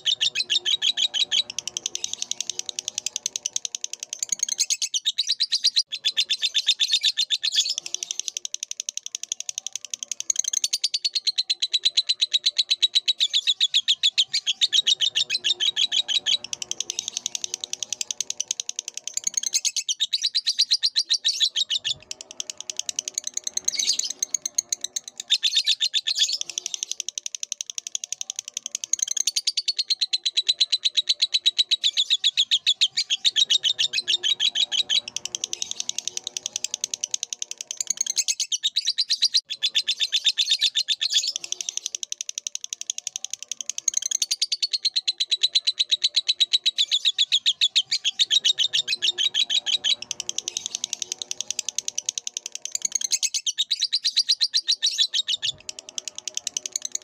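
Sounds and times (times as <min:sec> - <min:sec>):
bird chirping and twittering: 0:00.0 - 0:57.0
soft low bird chatter: 0:00.0 - 0:57.0.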